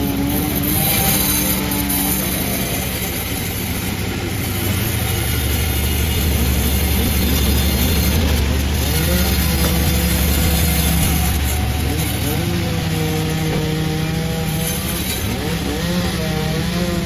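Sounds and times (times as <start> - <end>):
chainsaw engine running: 0.0 - 17.0.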